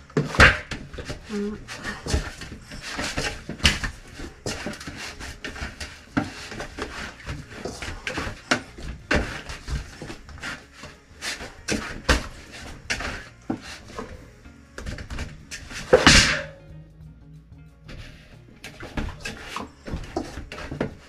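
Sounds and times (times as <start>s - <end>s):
dough thudding in metal bowl: 0.0s - 14.2s, 14.8s - 16.7s, 18.6s - 21.0s
dough rubbing: 0.0s - 21.0s.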